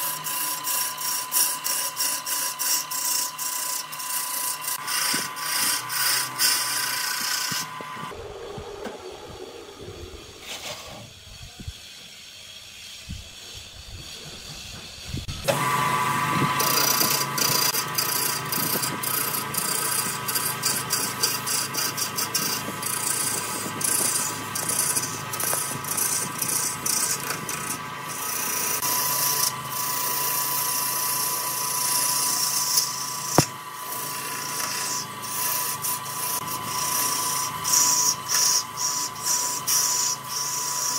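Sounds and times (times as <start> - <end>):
lathe whine: 0.0 - 40.9
turning tool cutting wood: 0.0 - 40.9.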